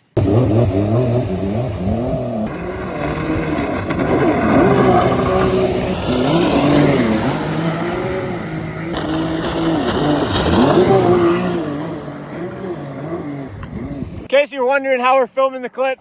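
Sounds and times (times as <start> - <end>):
jet ski engine revving: 0.0 - 14.3.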